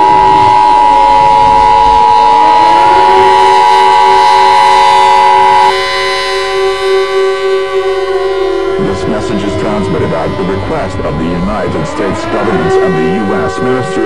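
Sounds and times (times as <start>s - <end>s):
civil defense siren: 0.0s - 14.0s
loud two-note alert tone: 0.0s - 14.0s.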